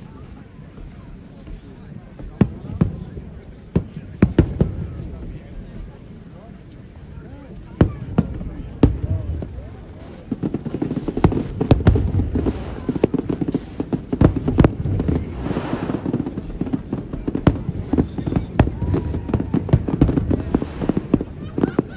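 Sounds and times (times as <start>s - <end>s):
fireworks bursting: 0.7s - 21.9s.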